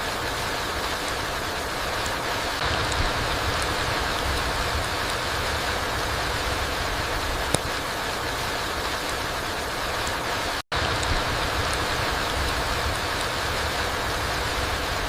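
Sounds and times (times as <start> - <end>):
rain falling through trees: 0.0 - 15.0.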